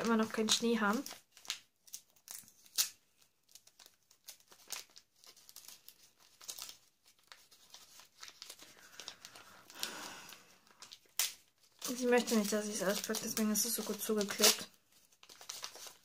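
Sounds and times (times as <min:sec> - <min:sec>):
wrapping paper crinkling and tearing: 0:00.0 - 0:16.0.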